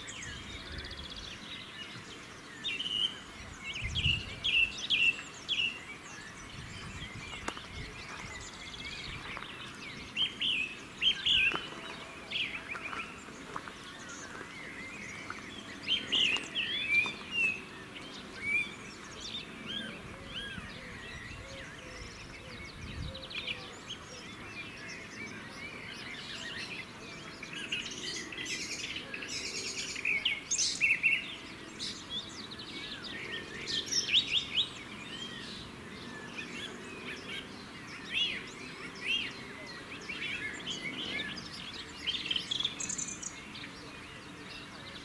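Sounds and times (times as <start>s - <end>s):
faint outdoor background noise: 0.0s - 45.0s
songbirds chirping and singing: 0.0s - 45.0s.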